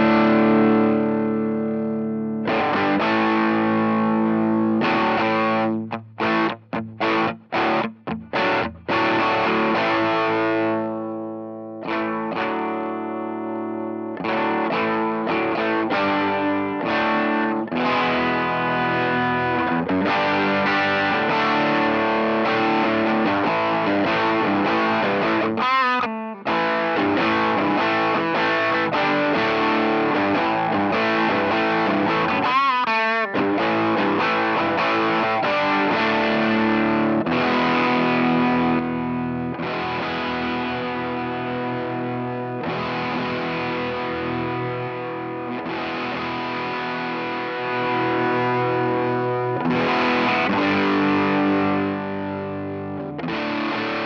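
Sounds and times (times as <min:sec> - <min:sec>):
fuzzed electric guitar: 0:00.0 - 0:54.0.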